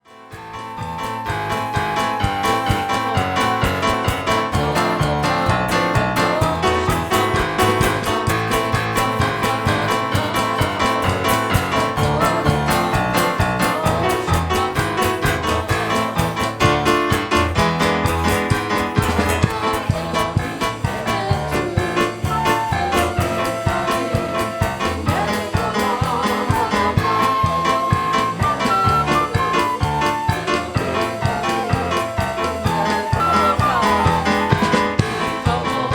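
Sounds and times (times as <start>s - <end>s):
upbeat instrumental music: 0.0s - 35.9s.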